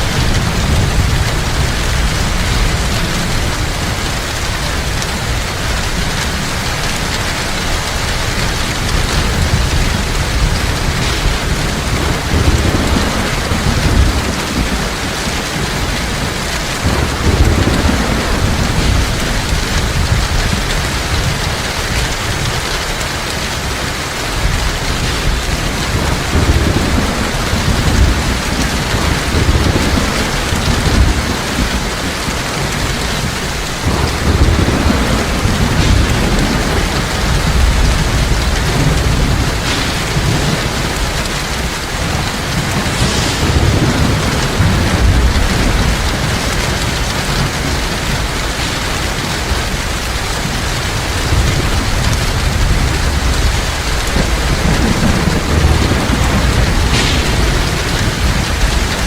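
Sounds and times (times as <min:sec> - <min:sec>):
heavy rainfall: 0:00.0 - 0:59.0
thunder rumbling: 0:00.0 - 0:59.0.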